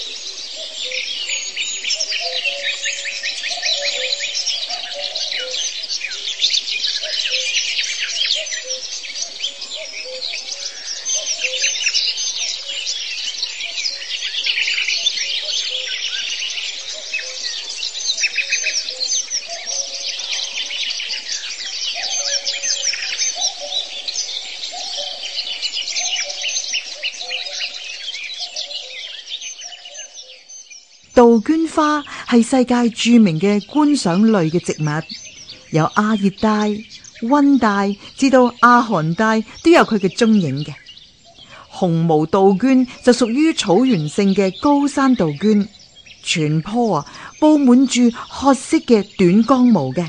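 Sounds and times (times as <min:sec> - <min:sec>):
low repeated bird call: 0:00.0 - 0:50.0
songbirds chirping and trilling: 0:00.0 - 0:50.0.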